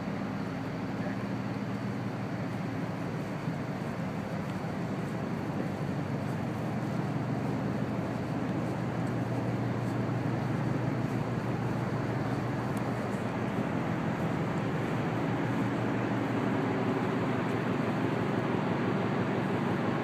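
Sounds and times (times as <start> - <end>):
ship machinery drone: 0.0 - 20.0.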